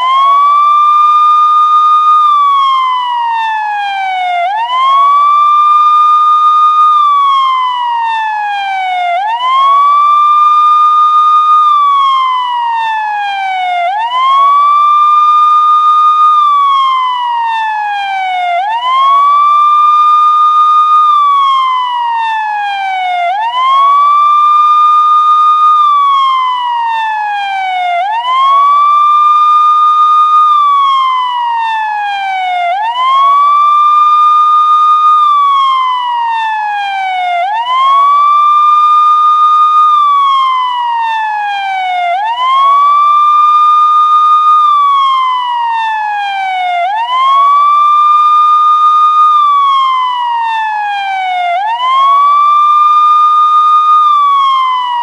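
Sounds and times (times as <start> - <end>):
police siren wailing: 0.0 - 55.0.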